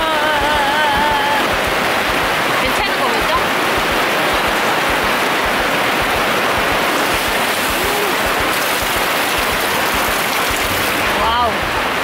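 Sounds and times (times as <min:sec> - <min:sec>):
heavy rain on fabric awning: 0:00.0 - 0:12.0
water pouring off awning edge: 0:01.6 - 0:12.0.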